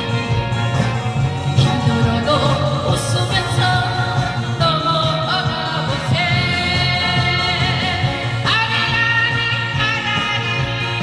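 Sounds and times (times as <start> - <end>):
backing music: 0.0 - 11.0
woman singing: 1.5 - 11.0.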